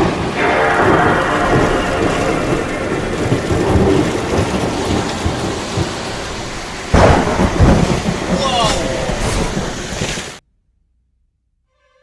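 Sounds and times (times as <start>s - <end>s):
heavy rain: 0.0s - 10.4s
loud thunderclap: 0.0s - 10.4s
rolling thunder: 0.0s - 10.4s.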